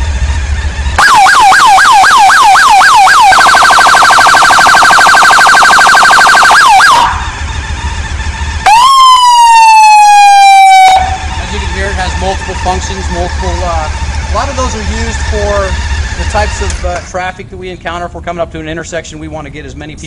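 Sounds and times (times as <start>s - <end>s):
electronic police siren: 0.0s - 16.7s
long horn-like siren blast: 0.0s - 16.7s.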